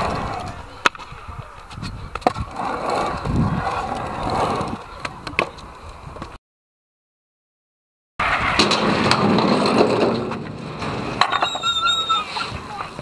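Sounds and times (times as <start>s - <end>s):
scooter wheels rolling on concrete: 0.0s - 6.4s, 8.2s - 13.0s.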